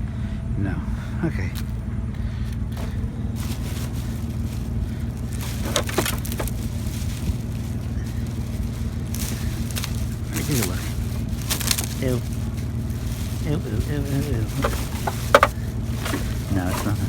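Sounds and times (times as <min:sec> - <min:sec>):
vehicle engine idling: 0:00.0 - 0:17.0
trash crunching and rustling: 0:01.4 - 0:17.0.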